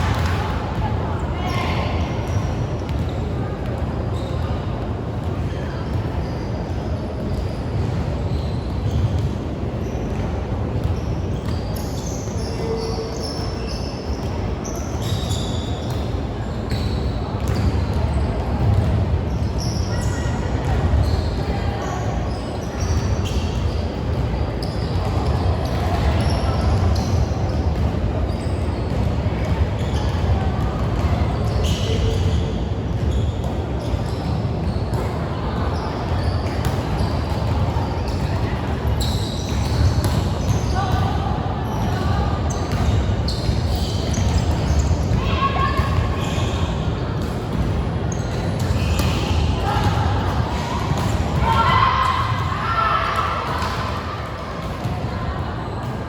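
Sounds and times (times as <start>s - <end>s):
low rumble of large hall: 0.0s - 56.0s
sneakers squeaking on gym floor: 0.0s - 56.0s.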